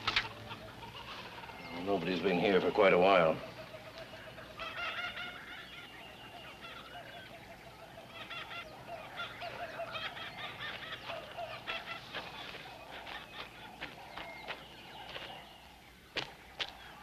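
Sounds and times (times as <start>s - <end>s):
birds calling in short clusters: 0.0s - 17.0s.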